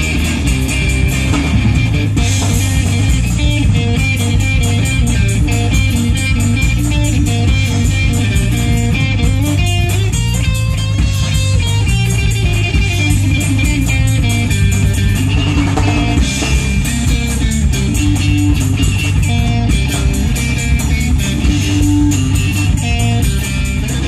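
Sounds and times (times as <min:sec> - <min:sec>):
drum kit: 0:00.0 - 0:24.0
electric bass: 0:00.0 - 0:24.0
electric guitar melody: 0:00.0 - 0:24.0.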